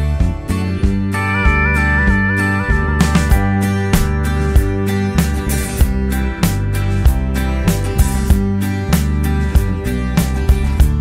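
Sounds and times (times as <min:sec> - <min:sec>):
guitar-led background music: 0:00.0 - 0:11.0.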